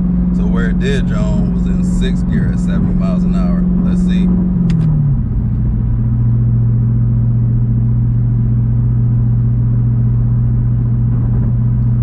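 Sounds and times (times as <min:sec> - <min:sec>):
car exhaust drone in cabin: 0:00.0 - 0:12.0
road noise: 0:00.0 - 0:12.0.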